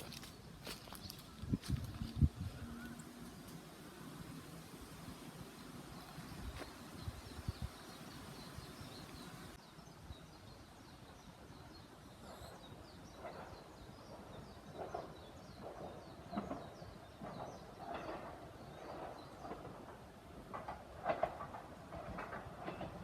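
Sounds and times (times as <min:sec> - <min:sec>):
diesel railcar approaching: 0:00.0 - 0:09.6, 0:11.5 - 0:23.0
birds chirping: 0:00.0 - 0:19.6
woodland background noise: 0:00.0 - 0:23.0.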